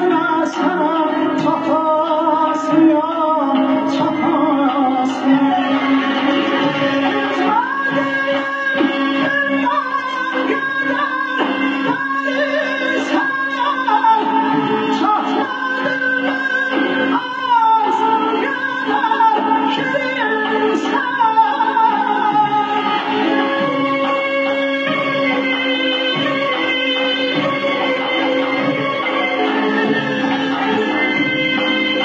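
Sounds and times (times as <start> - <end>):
person singing: 0.0 - 32.0.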